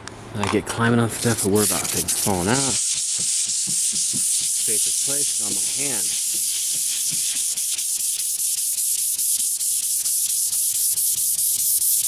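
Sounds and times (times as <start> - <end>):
sandpaper scratching by hand: 1.2 - 12.0.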